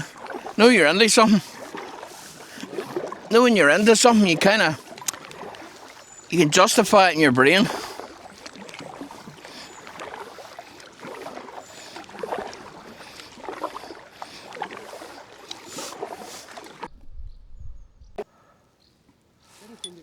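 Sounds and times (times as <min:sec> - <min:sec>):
paddles splashing in water: 0:00.0 - 0:17.0.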